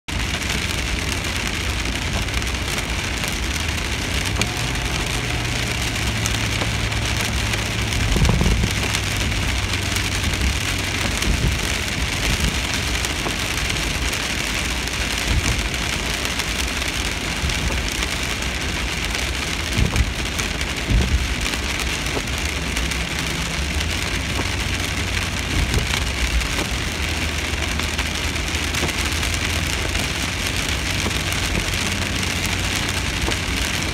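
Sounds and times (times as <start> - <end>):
rain on car roof: 0.0 - 33.9
engine and tyre hum: 0.1 - 33.9.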